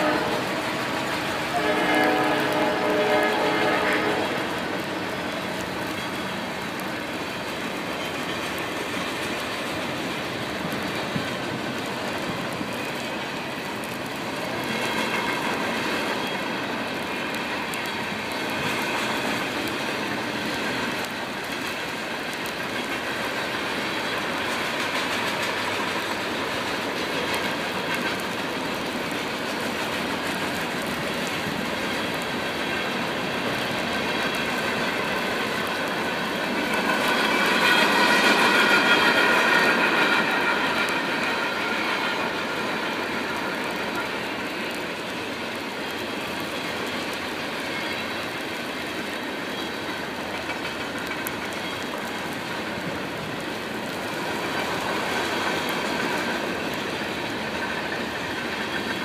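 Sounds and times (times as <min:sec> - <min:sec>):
steel wheels rolling on rail: 0:00.0 - 0:59.0.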